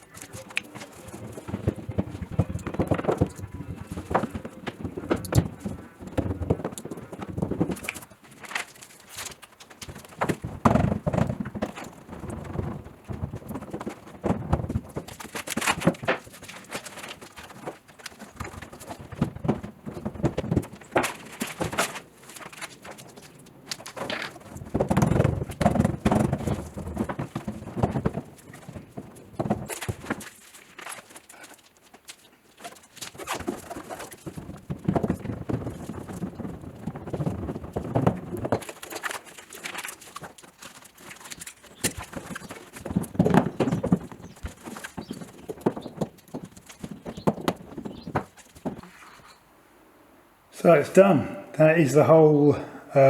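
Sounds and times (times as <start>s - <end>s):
hand roller clattering on metal: 0.0s - 49.1s.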